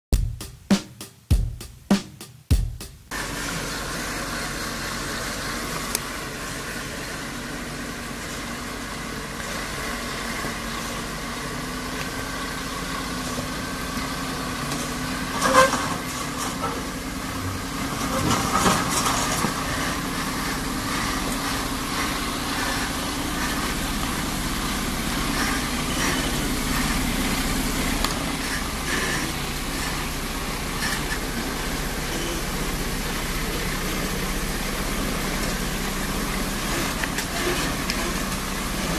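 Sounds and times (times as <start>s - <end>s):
truck diesel engine: 3.1s - 38.9s.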